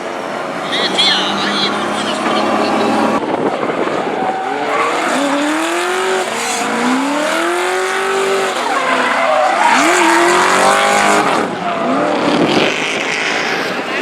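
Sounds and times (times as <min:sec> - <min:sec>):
car engine revving hard: 0:00.2 - 0:13.8.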